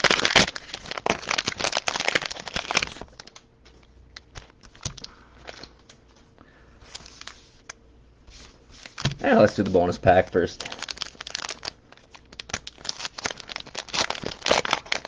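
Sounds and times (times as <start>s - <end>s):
plastic wrapping crinkling and tearing: 0.0s - 6.0s, 8.3s - 15.0s.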